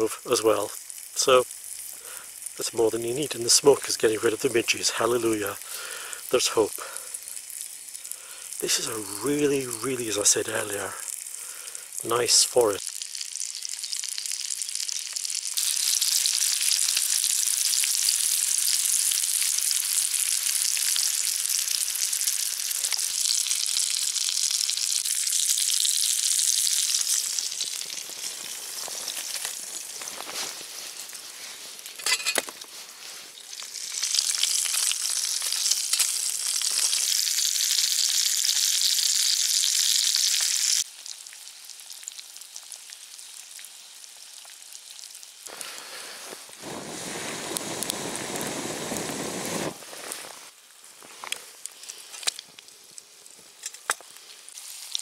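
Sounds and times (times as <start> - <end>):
food sizzling in a pan: 0.0 - 55.0
sharp crackle: 0.0 - 55.0.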